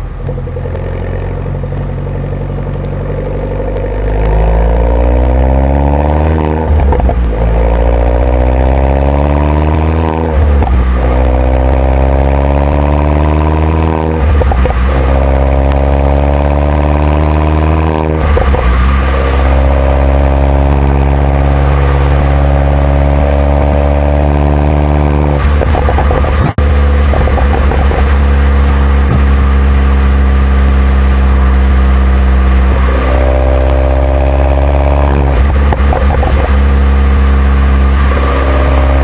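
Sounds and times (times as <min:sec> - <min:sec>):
car engine accelerating through gears: 0:00.0 - 0:39.0.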